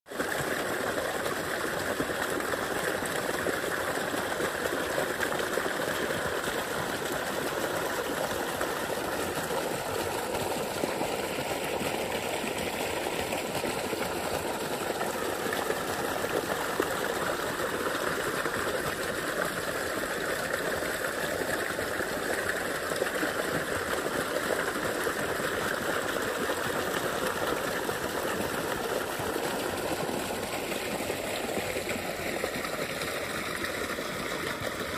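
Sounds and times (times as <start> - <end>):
water gushing into pool: 0.1 - 34.9.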